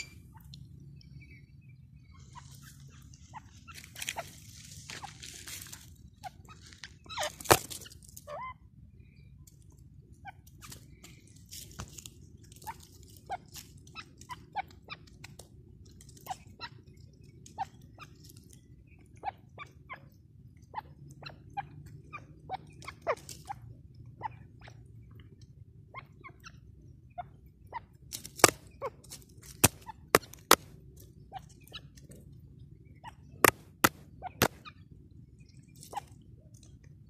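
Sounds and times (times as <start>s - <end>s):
birds pecking at dry soil: 0.0s - 37.0s.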